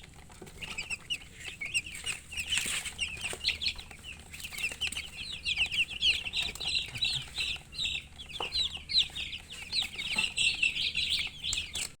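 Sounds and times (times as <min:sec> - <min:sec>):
baby chicks chirping: 0:00.0 - 0:12.0.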